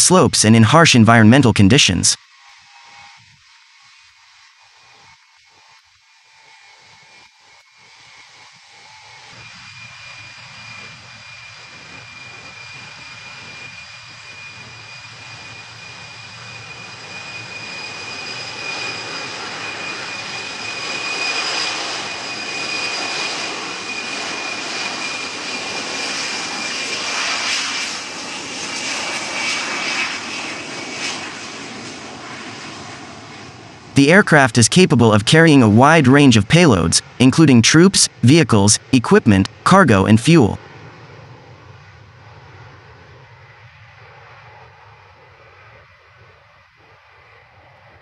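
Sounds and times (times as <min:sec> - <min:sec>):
jet engines rushing and whining: 0:00.0 - 0:48.0.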